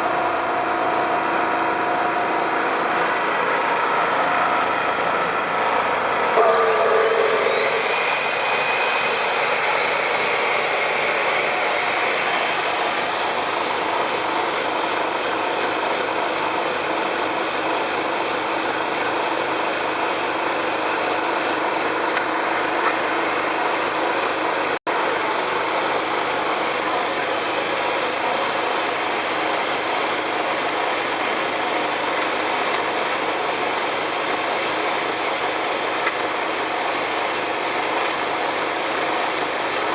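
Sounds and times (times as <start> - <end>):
cut-off saw motor whining: 0.0 - 39.9
generator engine running: 0.0 - 39.9.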